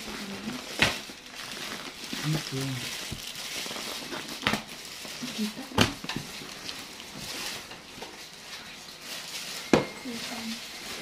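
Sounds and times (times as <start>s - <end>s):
packing tape ripped off cardboard: 0.0s - 11.0s.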